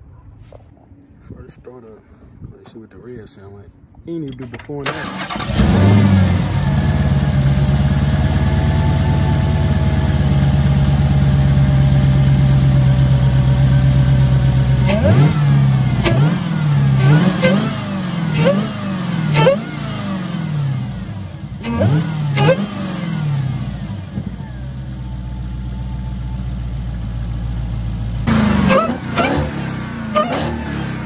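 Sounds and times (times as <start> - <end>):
car engine idling and revving: 5.1 - 31.0.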